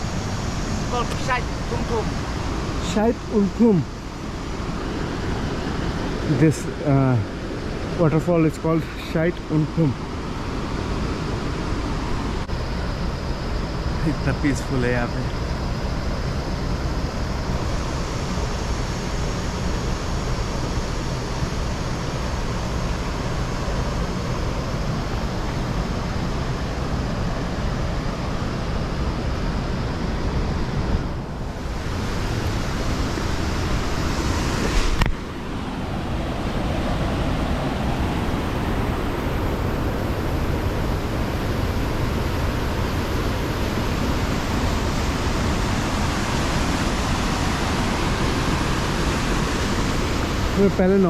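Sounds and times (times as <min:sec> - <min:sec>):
waterfall roaring: 0:00.0 - 0:12.4, 0:21.6 - 0:51.0.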